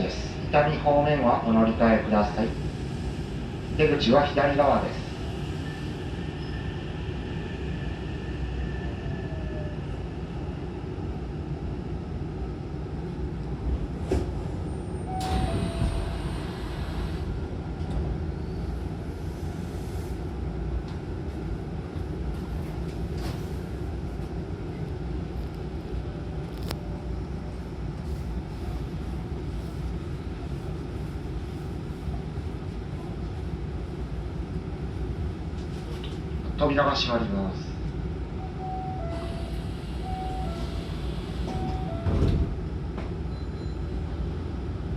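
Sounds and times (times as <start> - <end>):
stopped train humming: 0.0 - 36.6, 37.8 - 44.9.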